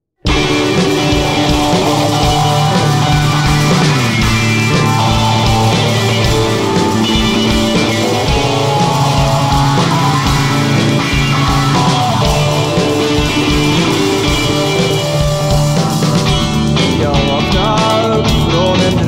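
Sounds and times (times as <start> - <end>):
bass: 0.2 - 19.0
electric guitar: 0.2 - 19.0
steady drum beat: 0.2 - 19.0.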